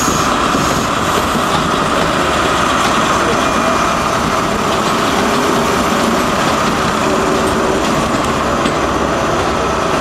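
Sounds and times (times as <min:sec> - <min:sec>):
diesel engine roaring: 0:00.0 - 0:10.0.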